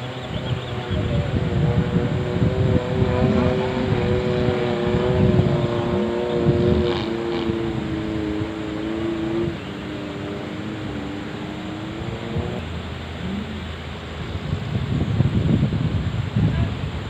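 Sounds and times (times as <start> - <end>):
jeep engine running: 0.0 - 17.0.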